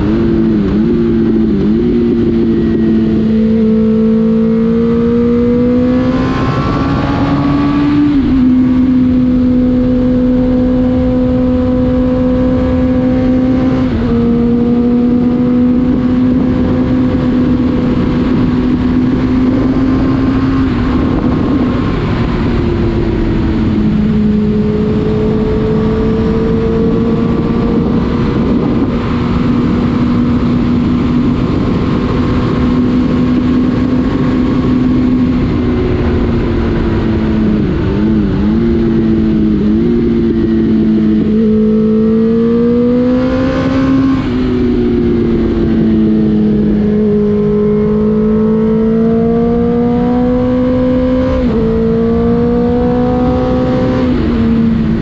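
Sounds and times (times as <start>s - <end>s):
motorcycle engine revving: 0.0s - 55.0s
wind rushing: 0.0s - 55.0s.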